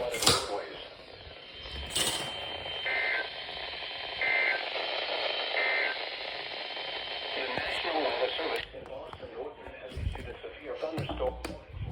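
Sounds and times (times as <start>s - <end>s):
radio hiss: 0.0s - 11.9s.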